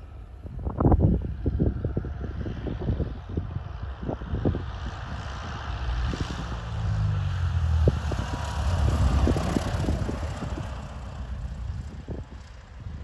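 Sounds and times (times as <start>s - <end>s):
airplane engine and propeller droning: 0.0s - 13.0s
wind buffeting microphone: 0.0s - 13.0s.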